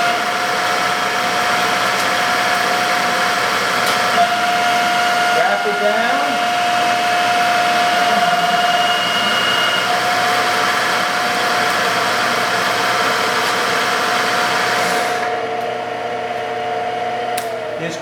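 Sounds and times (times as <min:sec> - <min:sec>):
motor whine: 0:00.0 - 0:18.0.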